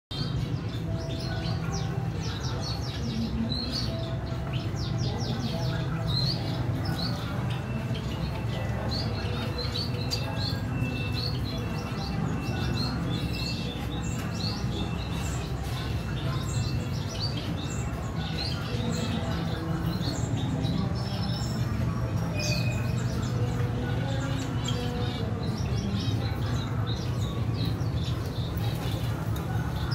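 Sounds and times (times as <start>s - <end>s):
small birds chirping: 0.1s - 29.9s.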